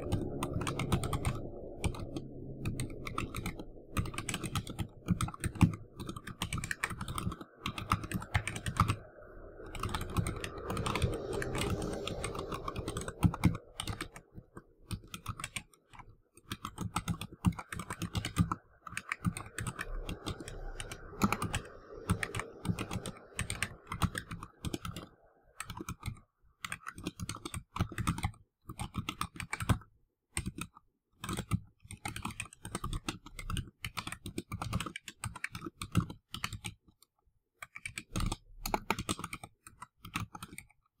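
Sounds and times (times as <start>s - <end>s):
keyboard typing: 0.0s - 41.0s.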